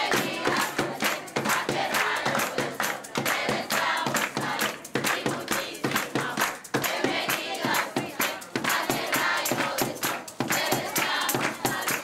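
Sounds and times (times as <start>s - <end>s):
children and woman singing: 0.0s - 12.0s
hands clapping in rhythm: 0.0s - 12.0s.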